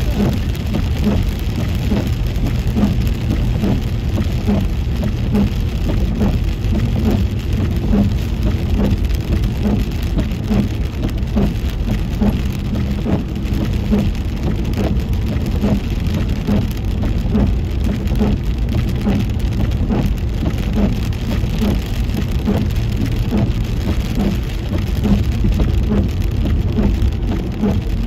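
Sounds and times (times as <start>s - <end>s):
rain on car: 0.0s - 28.0s
tyres on wet pavement: 0.0s - 28.0s
windshield wipers thumping: 0.0s - 28.0s.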